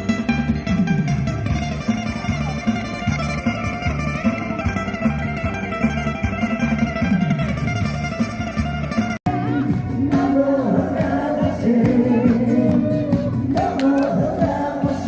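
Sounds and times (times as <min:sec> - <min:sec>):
plucked guitar: 0:00.0 - 0:14.4.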